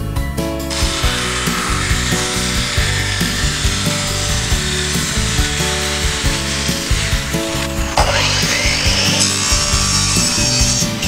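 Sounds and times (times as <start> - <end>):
background music: 0.0 - 11.0
jigsaw cutting plywood: 0.7 - 11.0.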